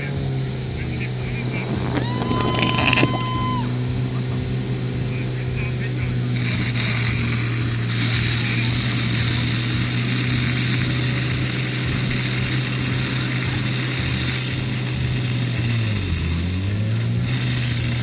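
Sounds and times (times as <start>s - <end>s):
fire pump engine running: 0.0s - 18.0s
hoses spraying: 0.0s - 18.0s
steady hiss: 3.2s - 18.0s.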